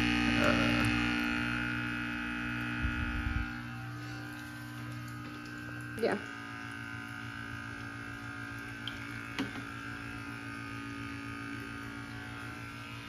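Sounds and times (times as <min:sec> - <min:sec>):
aquarium air pump buzzing: 0:00.0 - 0:13.0.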